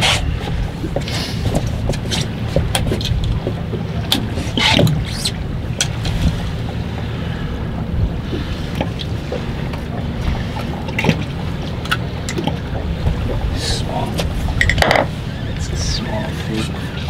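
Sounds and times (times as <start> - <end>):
boat rumble: 0.0 - 17.0.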